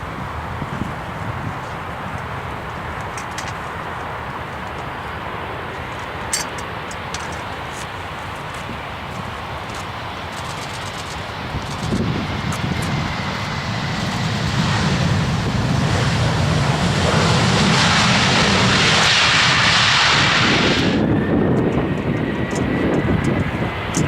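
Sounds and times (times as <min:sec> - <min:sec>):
airliner engines hissing: 0:00.0 - 0:24.0.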